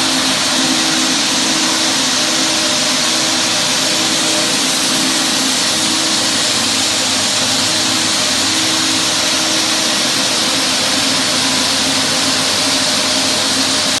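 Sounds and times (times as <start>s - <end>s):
floor sander grinding wood: 0.0s - 14.0s
vacuum hissing: 0.0s - 14.0s.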